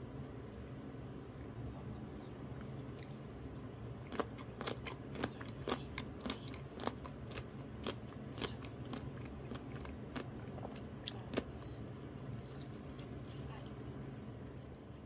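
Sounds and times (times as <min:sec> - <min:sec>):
chewing crunchy food: 0:02.7 - 0:14.9.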